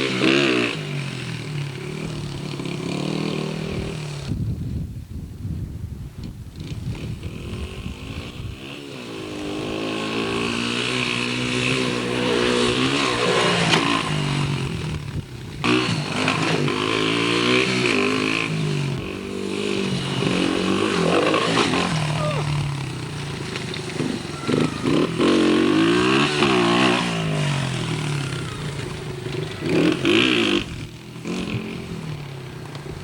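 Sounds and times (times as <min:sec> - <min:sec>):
dirt bike engine revving: 0:00.0 - 0:04.3, 0:06.6 - 0:33.0.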